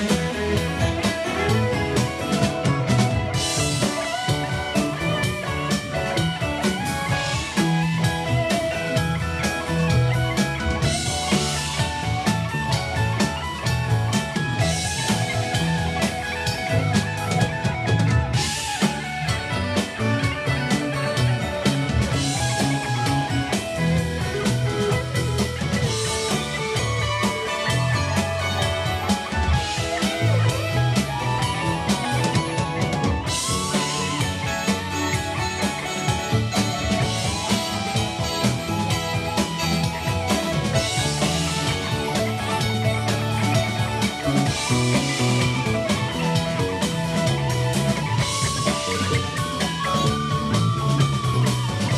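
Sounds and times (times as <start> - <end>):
bass guitar: 0.0 - 51.9
drum kit beat: 0.0 - 51.9
electric guitars: 0.0 - 51.9
keyboards: 0.0 - 51.9.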